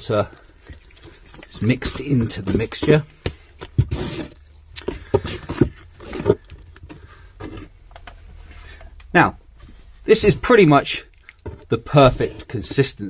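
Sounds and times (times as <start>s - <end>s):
stick stirring wet cement: 0.0s - 7.8s, 10.0s - 13.0s.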